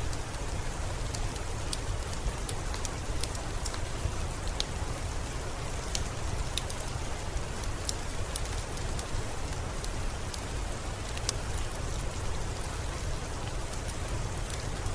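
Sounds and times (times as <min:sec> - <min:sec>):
sharp drip-like ticks: 0:00.0 - 0:14.9
steady rainfall: 0:00.0 - 0:14.9.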